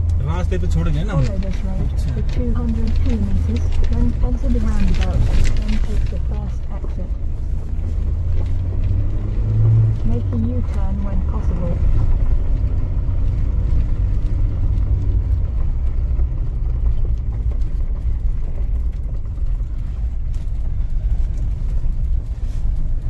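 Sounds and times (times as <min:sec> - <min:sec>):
car engine rumble: 0:00.0 - 0:23.0.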